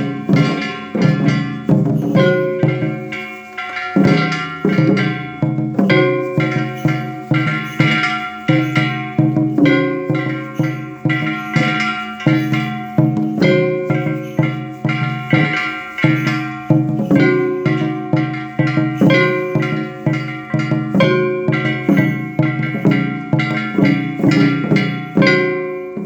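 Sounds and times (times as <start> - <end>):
metallic percussion strikes ringing: 0.0 - 26.0.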